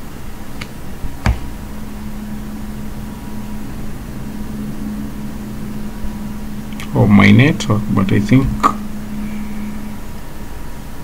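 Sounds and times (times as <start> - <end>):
background hiss: 0.0 - 11.0
steady low hum: 0.0 - 11.0.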